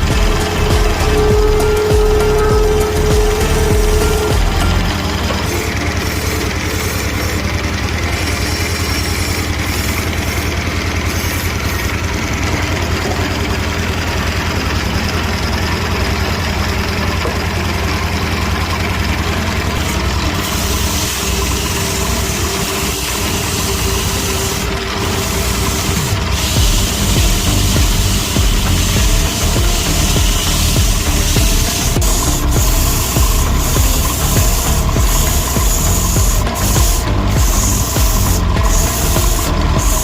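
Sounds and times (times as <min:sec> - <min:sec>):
motor humming and pulsing: 0:00.0 - 0:40.0.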